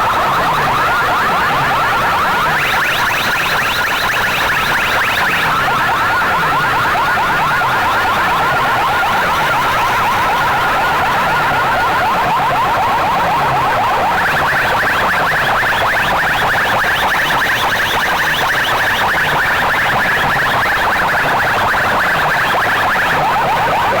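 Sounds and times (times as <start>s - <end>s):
electronic siren-like tone: 0.0s - 24.0s.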